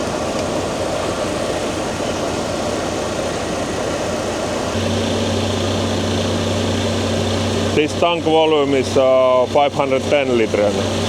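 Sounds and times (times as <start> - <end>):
deeper hum: 0.0 - 11.0
fuel pump running: 0.0 - 11.0.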